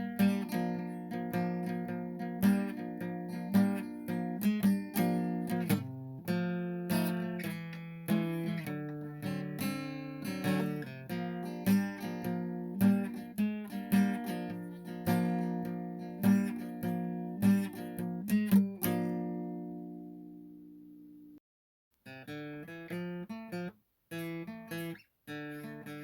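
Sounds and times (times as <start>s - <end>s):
acoustic guitar music: 0.0s - 21.4s, 22.1s - 26.0s.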